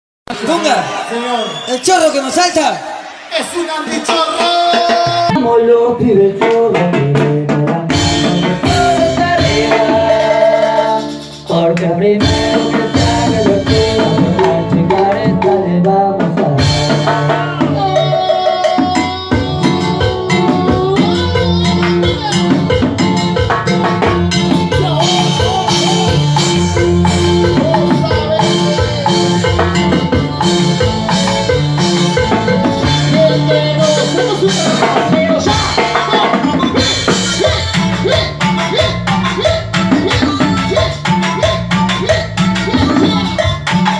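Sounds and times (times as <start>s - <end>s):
drum kit beat: 0.3s - 43.9s
keyboard melody: 3.1s - 43.9s
hand percussion: 6.4s - 43.9s.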